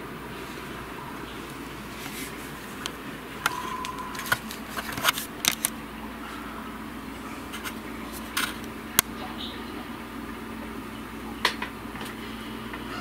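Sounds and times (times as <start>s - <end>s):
steady indoor hum: 0.0s - 13.0s.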